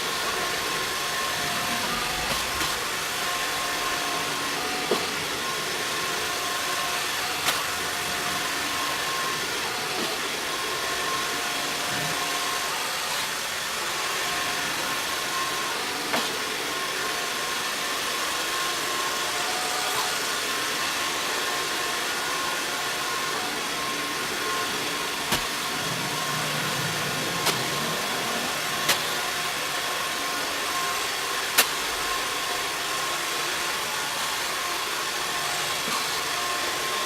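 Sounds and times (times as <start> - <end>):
robot vacuum whirring: 0.0 - 37.0.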